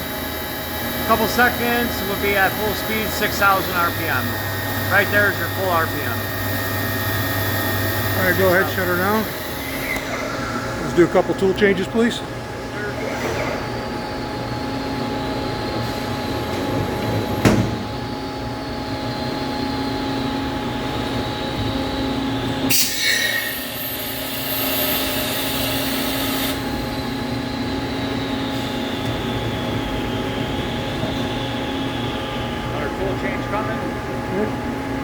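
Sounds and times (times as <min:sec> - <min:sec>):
machine humming: 0:00.0 - 0:35.0.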